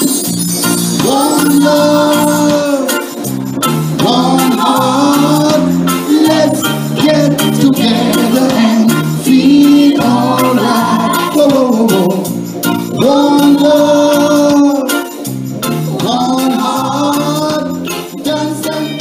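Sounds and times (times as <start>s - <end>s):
backing track with bass and beat: 0.0s - 19.0s
man singing into microphone: 1.0s - 3.1s, 4.0s - 12.3s, 12.9s - 15.1s, 15.9s - 19.0s.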